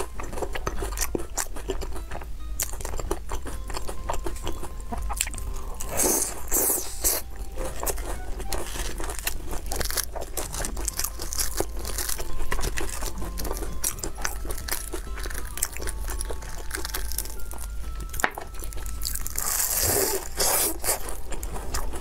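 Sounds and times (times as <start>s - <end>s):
crisp crust crackling: 0.0s - 22.0s
crunching and chewing crisp food: 0.0s - 22.0s.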